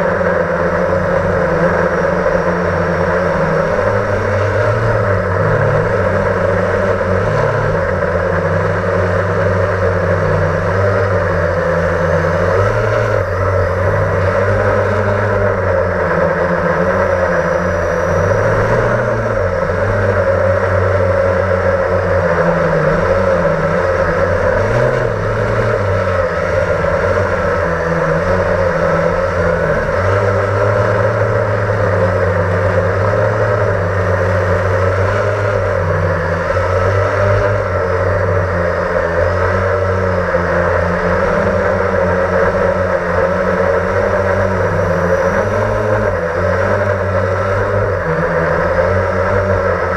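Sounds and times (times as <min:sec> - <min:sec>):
drone propellers whirring: 0:00.0 - 0:49.9.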